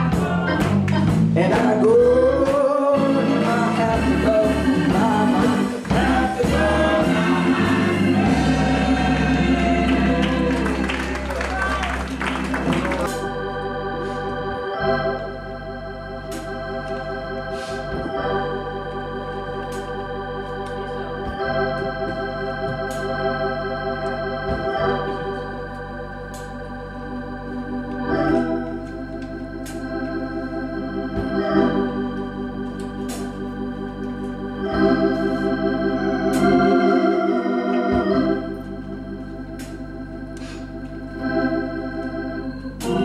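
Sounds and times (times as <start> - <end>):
organ chords with vibrato: 0.0 - 43.0.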